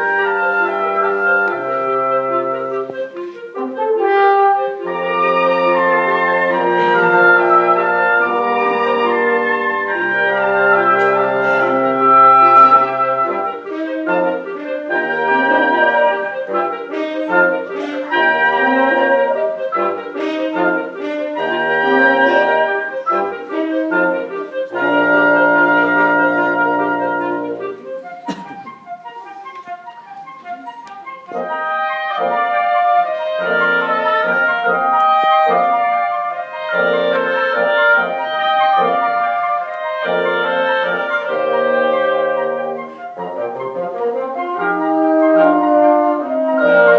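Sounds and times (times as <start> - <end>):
wind instruments holding chords: 0.0 - 46.9.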